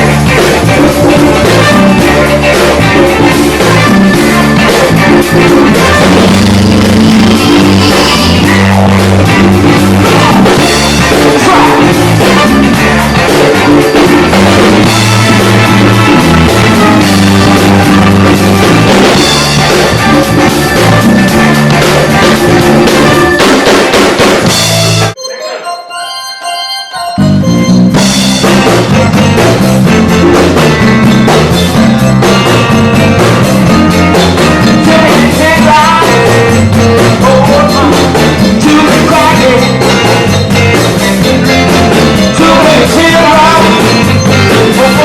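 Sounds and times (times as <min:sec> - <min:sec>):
band playing funk-rock: 0:00.0 - 0:45.0.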